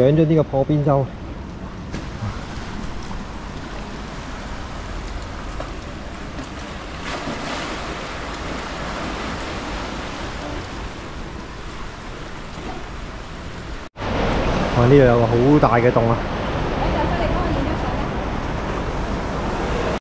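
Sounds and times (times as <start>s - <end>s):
sea waves surf: 0.2s - 20.0s.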